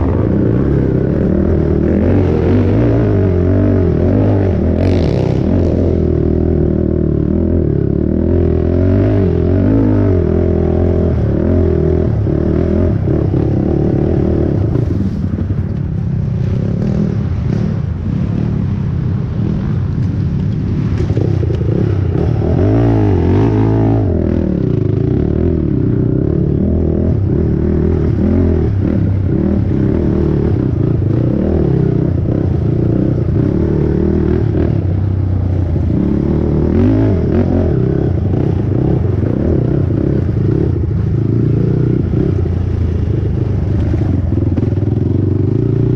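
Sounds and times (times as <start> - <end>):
quad engine revving: 0.0 - 14.9, 21.0 - 45.9.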